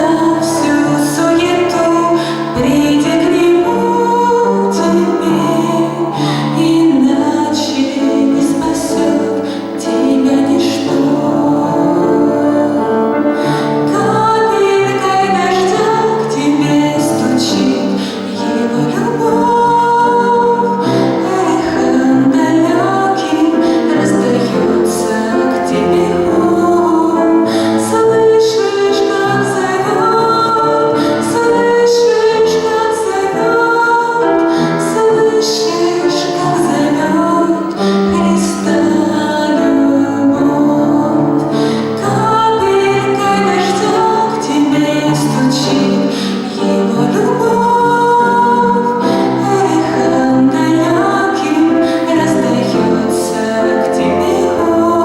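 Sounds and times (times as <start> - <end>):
woman singing: 0.0 - 55.0.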